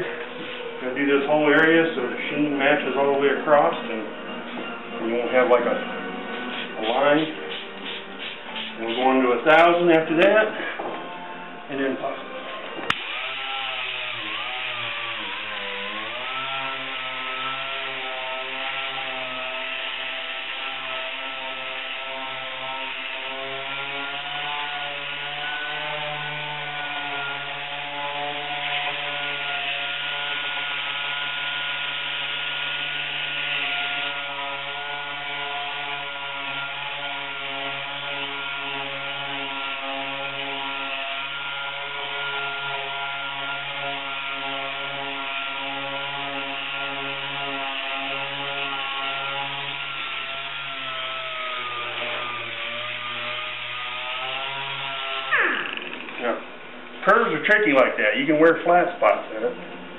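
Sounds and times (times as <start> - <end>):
air sander whining: 0.0 - 58.2.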